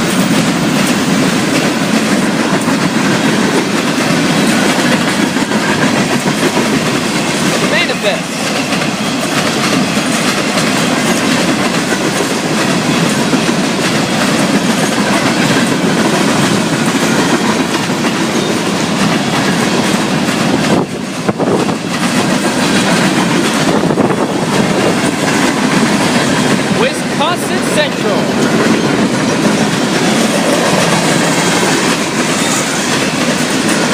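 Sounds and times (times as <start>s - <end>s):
freight train wheels rumbling on rails: 0.0s - 33.9s.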